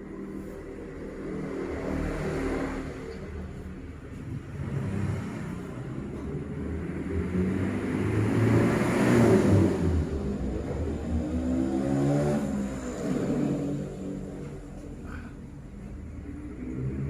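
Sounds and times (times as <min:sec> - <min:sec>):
motor vehicle passing by: 0:00.0 - 0:17.0.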